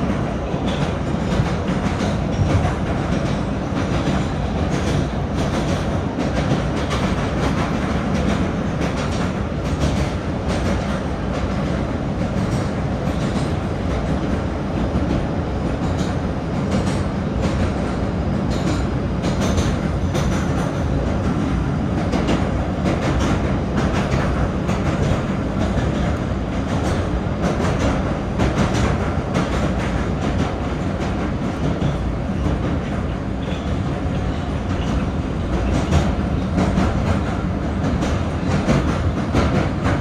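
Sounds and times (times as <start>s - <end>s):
subway wheels rumbling on rails: 0.0s - 40.0s.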